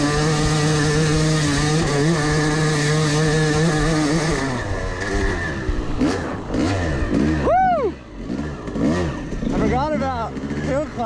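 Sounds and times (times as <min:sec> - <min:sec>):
two-stroke dirt bike engine revving: 0:00.0 - 0:11.0.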